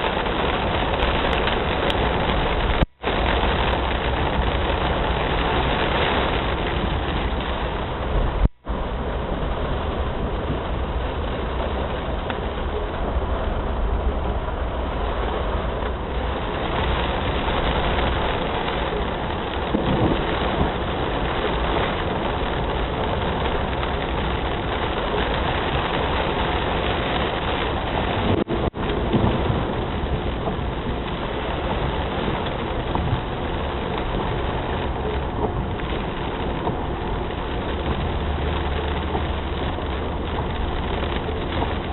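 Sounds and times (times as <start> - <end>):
heavy rain falling: 0.0 - 41.9
low rumble: 0.0 - 41.9.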